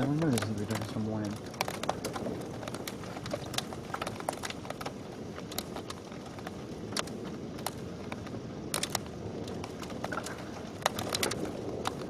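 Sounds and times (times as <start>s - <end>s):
rain and wind hiss: 0.0s - 12.0s
rain ticking on hard surface: 0.0s - 12.0s.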